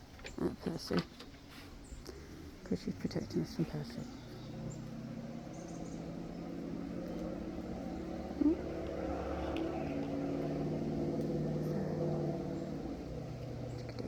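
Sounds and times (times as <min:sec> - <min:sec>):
motor engine humming: 0:00.0 - 0:14.0.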